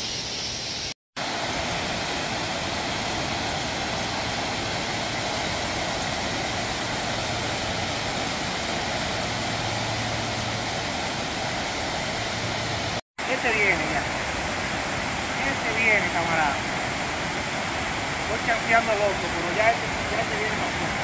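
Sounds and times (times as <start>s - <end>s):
water pouring over spillway: 1.2s - 21.0s.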